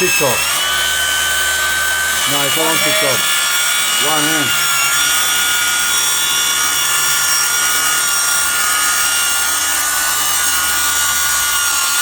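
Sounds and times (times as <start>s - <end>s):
track saw whining: 0.0s - 12.0s.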